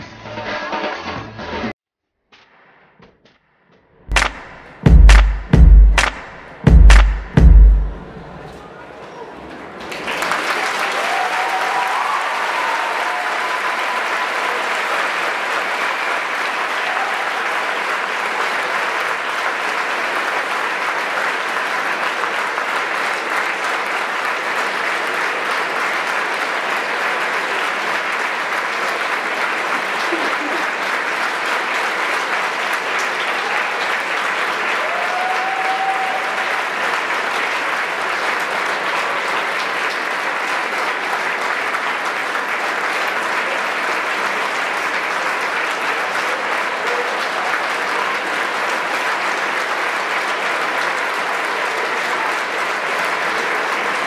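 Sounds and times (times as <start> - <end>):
audience applauding: 4.1 - 54.0
calls from audience: 7.4 - 54.0.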